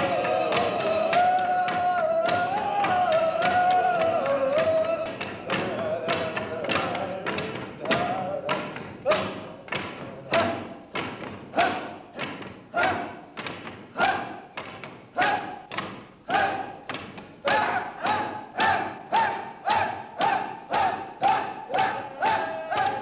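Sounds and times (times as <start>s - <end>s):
wooden staves pounding on stage: 0.0s - 23.0s.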